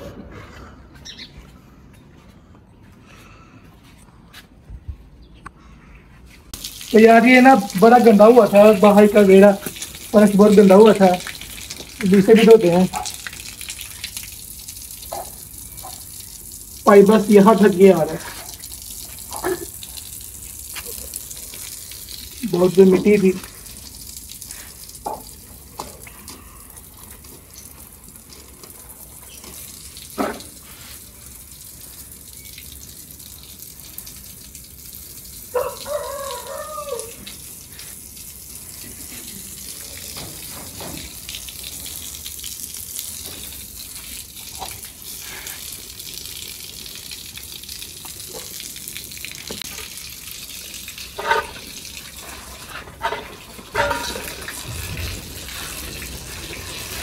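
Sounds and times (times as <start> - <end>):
hose water splashing on concrete: 6.5 - 57.0.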